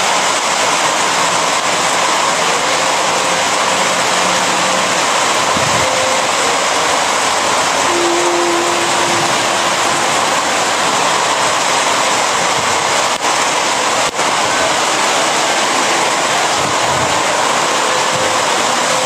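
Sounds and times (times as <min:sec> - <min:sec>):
heavy rain downpour: 0:00.0 - 0:19.0.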